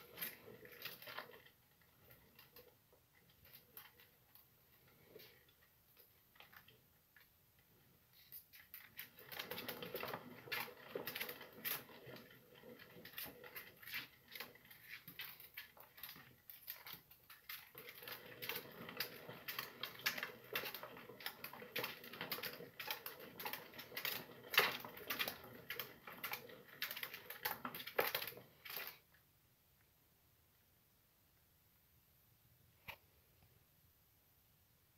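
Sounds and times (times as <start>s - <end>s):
small feet in spinning wheel: 0.0s - 29.1s.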